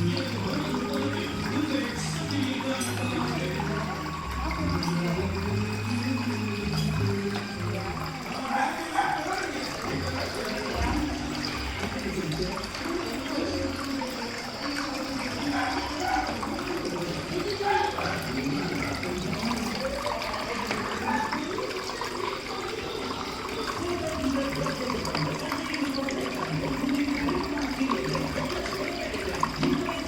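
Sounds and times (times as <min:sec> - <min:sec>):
water splashing down fountain: 0:00.0 - 0:30.0.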